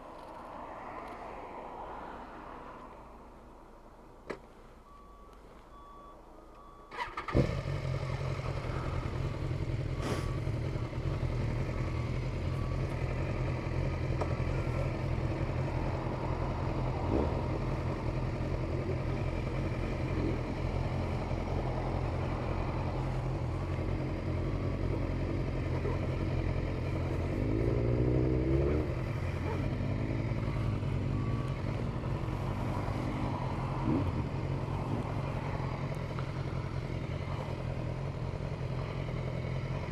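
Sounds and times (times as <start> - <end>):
motorcycle engine running: 7.0 - 39.9.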